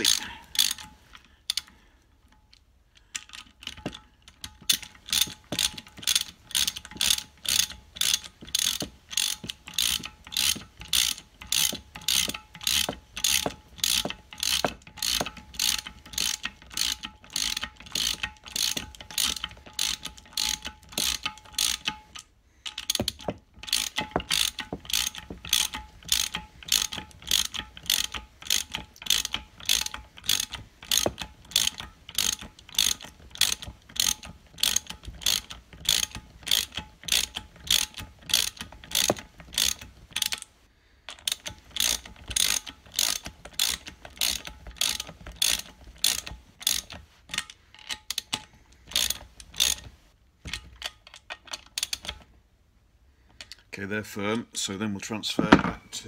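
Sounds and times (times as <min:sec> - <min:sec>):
socket ratchet clicking: 0:00.0 - 0:01.7, 0:03.0 - 0:40.5, 0:41.1 - 0:52.3.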